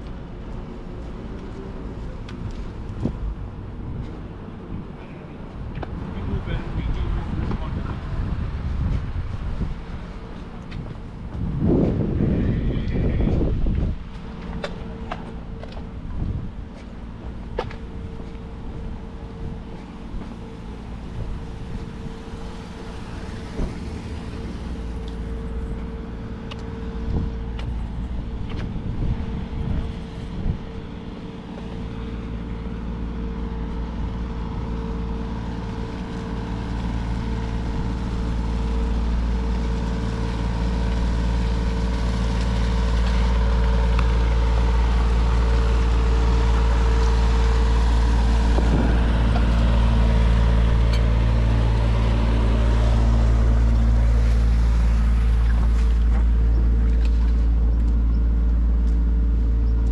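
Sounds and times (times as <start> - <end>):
city street noise: 0.0 - 59.9
large engine humming: 0.0 - 59.9.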